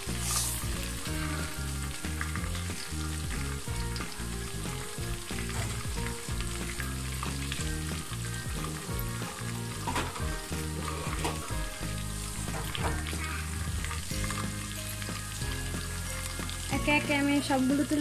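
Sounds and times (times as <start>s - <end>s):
chicken deep-frying in oil: 0.0s - 18.0s
low background tune: 0.0s - 18.0s.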